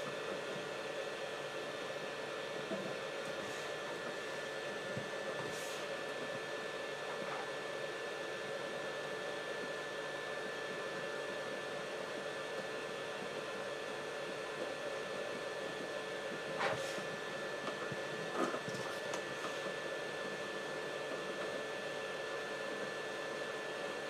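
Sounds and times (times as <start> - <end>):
fan blowing with whine: 0.0 - 24.0.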